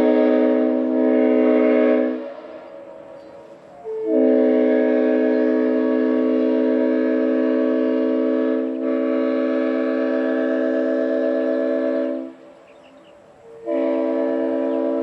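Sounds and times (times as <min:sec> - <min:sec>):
train horn chord blast: 0:00.0 - 0:15.0.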